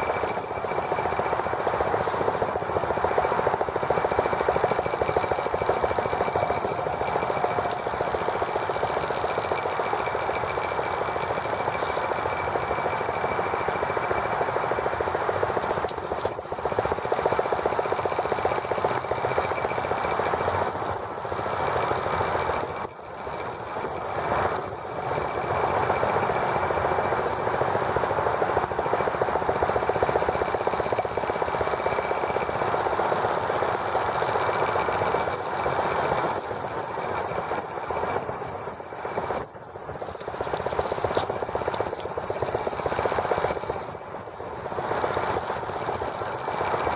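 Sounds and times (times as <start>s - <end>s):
small model engine rattling: 0.0s - 46.9s.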